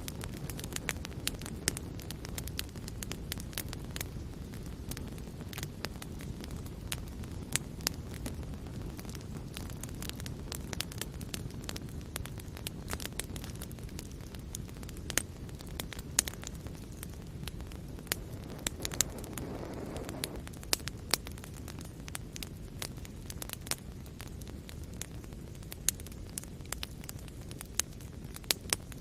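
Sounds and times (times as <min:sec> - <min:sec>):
soft hiss: 0:00.0 - 0:26.5
wood fire crackling: 0:00.0 - 0:29.0.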